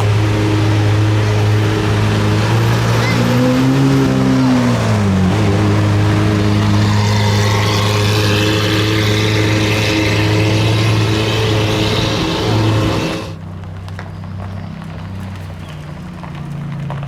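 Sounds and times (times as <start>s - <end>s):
loud supercar engine: 0.0s - 13.8s
low engine hum: 0.0s - 17.0s.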